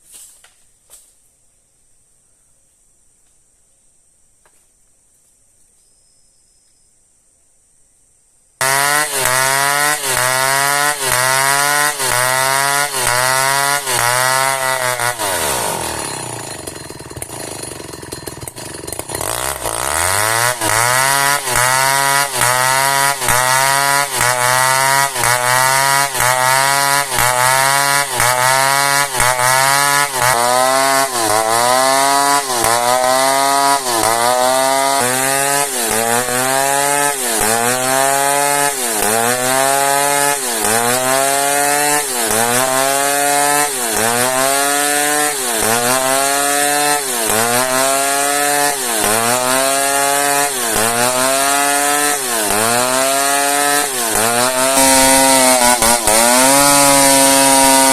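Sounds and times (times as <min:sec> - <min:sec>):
chainsaw cutting log: 0:08.6 - 0:57.9.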